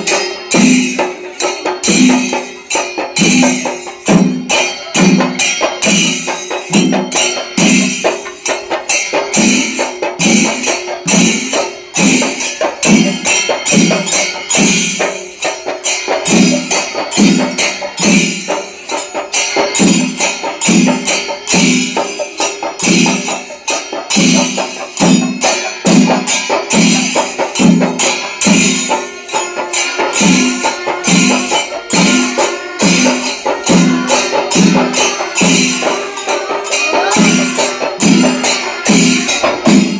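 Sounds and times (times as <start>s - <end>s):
small cymbals clashing: 0.0s - 39.9s.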